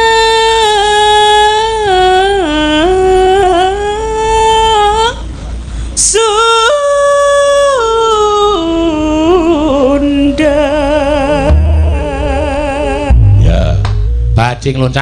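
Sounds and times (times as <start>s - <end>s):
woman singing slow solo line: 0.0s - 5.2s, 6.0s - 14.3s.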